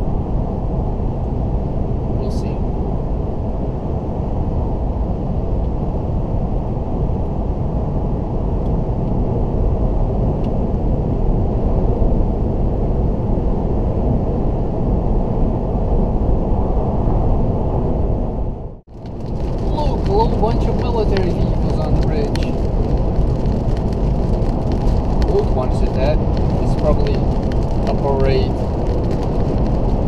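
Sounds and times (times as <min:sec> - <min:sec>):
road and wind noise in car cabin: 0:00.0 - 0:30.0.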